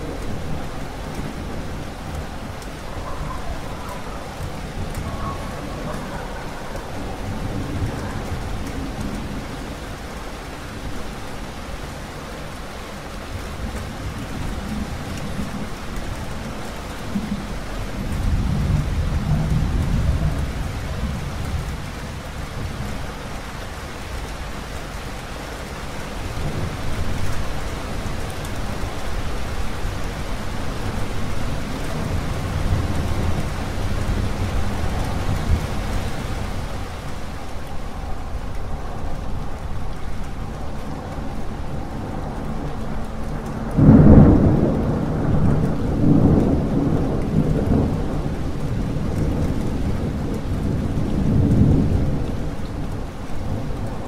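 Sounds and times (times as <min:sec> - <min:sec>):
thunder rumbling: 0:00.0 - 0:25.0, 0:25.8 - 0:54.0
heavy rain: 0:00.0 - 0:54.0.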